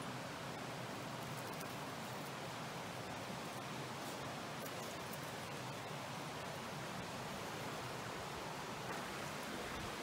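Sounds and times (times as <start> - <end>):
stream water flowing: 0.0 - 10.0.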